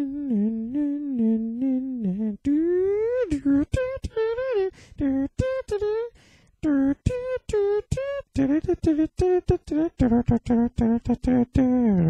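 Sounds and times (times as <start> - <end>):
man humming a tune: 0.0 - 12.0.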